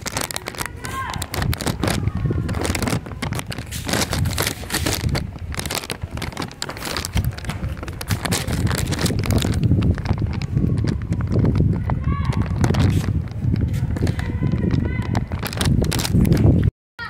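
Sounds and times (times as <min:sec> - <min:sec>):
phone handling crackling and rubbing: 0:00.0 - 0:16.5
low wind-like rumble: 0:00.0 - 0:16.7.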